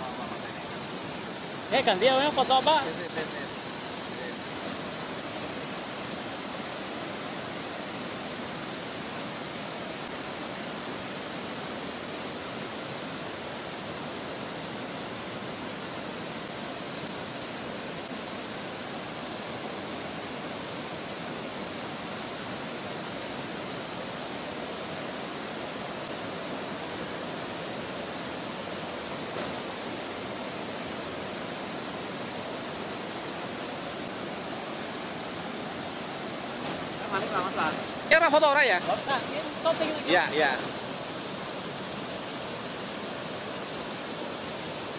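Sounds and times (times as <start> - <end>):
water rushing over boulders: 0.0 - 44.9.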